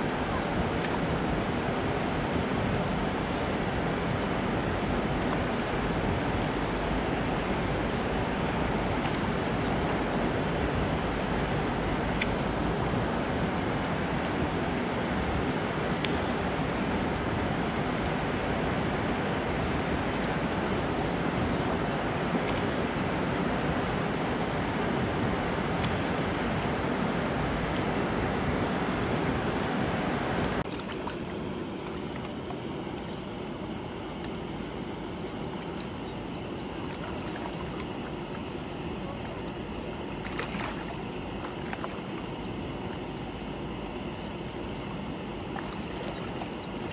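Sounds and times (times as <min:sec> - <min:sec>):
water rushing over weir: 0:00.0 - 0:46.9.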